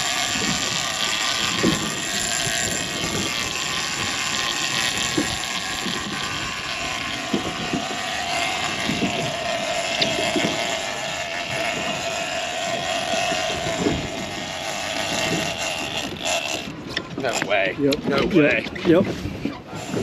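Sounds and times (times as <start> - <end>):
motorboat engine running: 0.0 - 20.0
waves slapping hull: 0.0 - 20.0
wind on microphone: 0.0 - 20.0.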